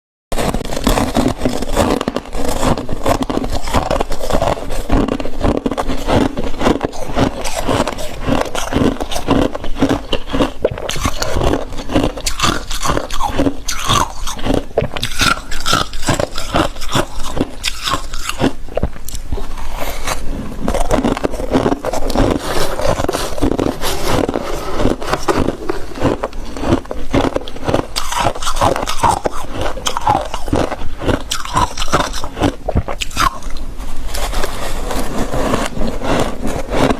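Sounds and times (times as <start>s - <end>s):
frost being crunched and scraped: 0.4s - 36.9s.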